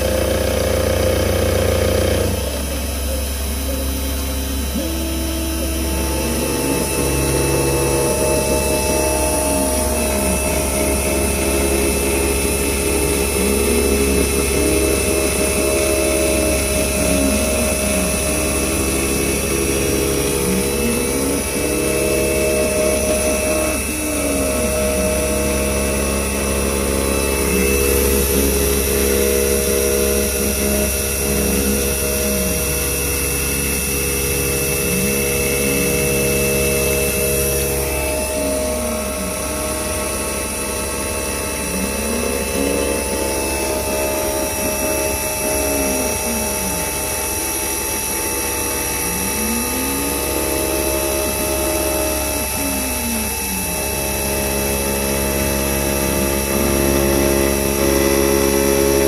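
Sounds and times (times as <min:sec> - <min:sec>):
axis drive whine: 0:00.0 - 0:59.0
milling machine spindle humming: 0:00.0 - 0:59.0.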